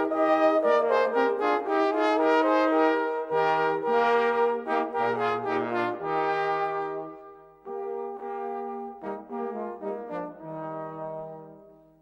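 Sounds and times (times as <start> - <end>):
brass ensemble playing chords: 0.0 - 12.0.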